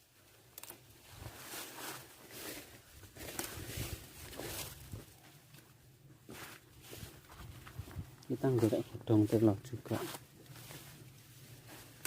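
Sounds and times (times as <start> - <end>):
leaves rustling and crunching: 0.0 - 12.0.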